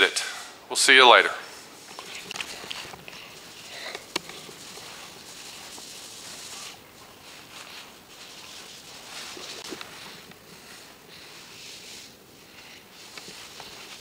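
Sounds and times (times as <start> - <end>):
handheld camera rustling: 1.4 - 14.0.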